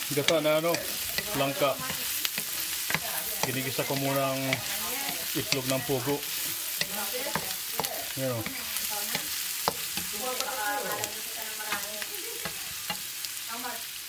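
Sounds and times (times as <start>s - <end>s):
wooden spatula scraping a pan: 0.0s - 13.1s
food sizzling in a frying pan: 0.0s - 14.0s.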